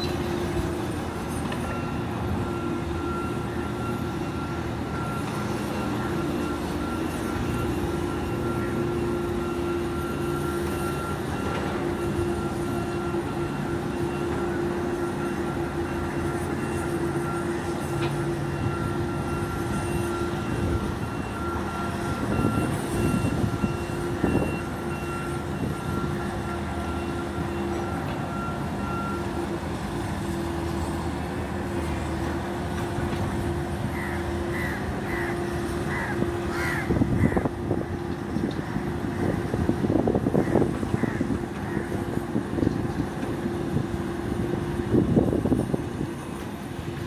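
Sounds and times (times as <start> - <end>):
road roller diesel engine running: 0.0 - 47.0.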